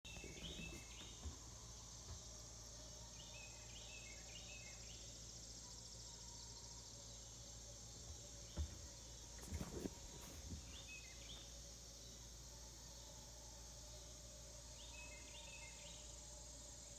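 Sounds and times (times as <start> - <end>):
insect chorus: 0.1 - 16.9.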